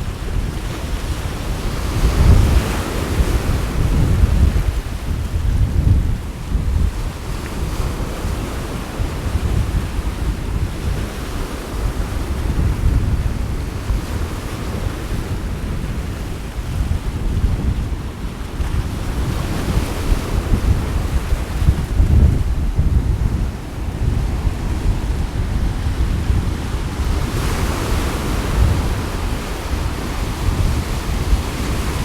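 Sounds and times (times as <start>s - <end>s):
sea waves washing ashore: 0.0s - 32.0s
wind buffeting microphone: 0.0s - 32.0s.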